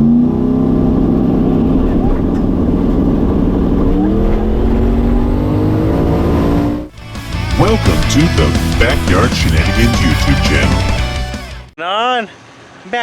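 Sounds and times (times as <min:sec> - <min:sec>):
drag car engine accelerating: 0:00.0 - 0:11.3.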